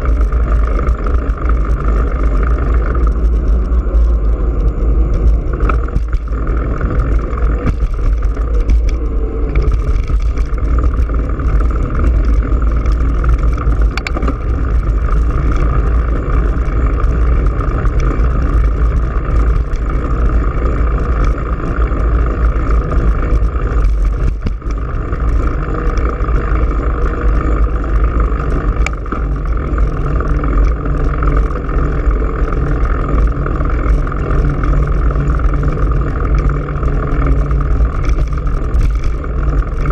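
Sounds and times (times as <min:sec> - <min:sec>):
wind rush from riding bicycle: 0:00.0 - 0:39.9.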